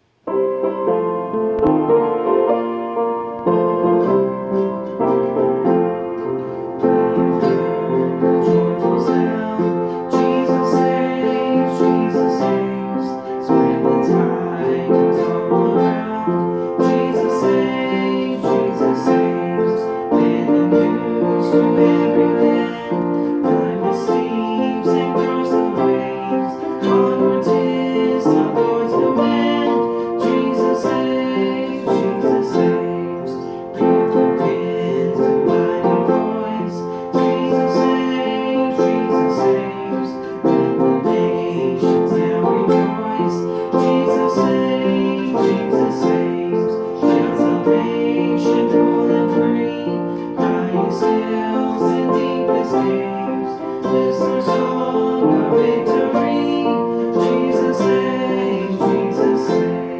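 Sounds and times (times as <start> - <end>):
guitar: 0.0 - 59.9
piano: 0.0 - 59.9.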